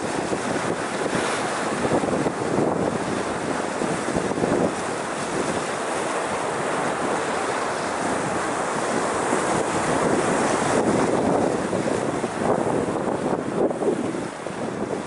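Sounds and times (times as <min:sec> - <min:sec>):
sea waves breaking on rocks: 0:00.0 - 0:15.0
wind buffeting microphone: 0:00.0 - 0:15.0.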